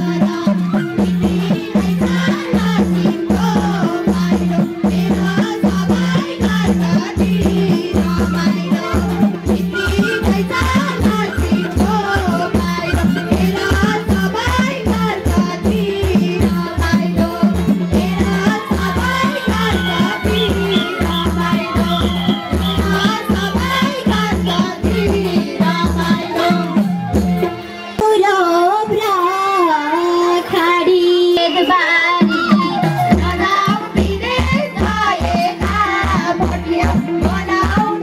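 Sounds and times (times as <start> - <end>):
hand drum beat with rattles: 0.0 - 27.6, 32.1 - 38.0
folk singing and melody: 0.0 - 38.0.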